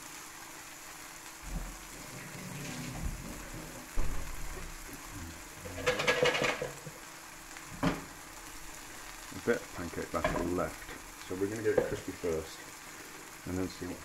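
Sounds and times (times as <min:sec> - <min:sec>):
cheese sizzling in a frying pan: 0:00.0 - 0:14.0.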